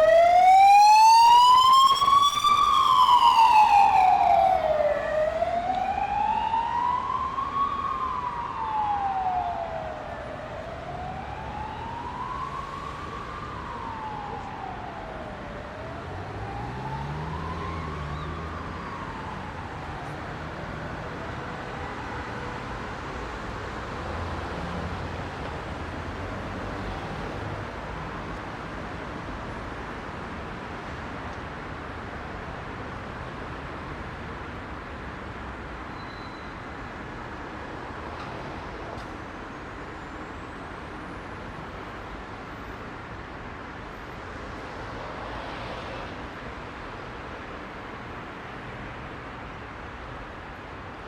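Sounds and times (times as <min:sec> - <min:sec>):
heavy road traffic: 0:00.0 - 0:51.0.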